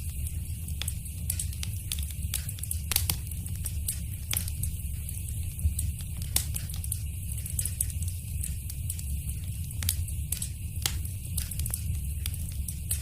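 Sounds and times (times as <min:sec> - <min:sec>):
fire low rumble: 0:00.0 - 0:13.0
fire pops and snaps: 0:00.0 - 0:13.0.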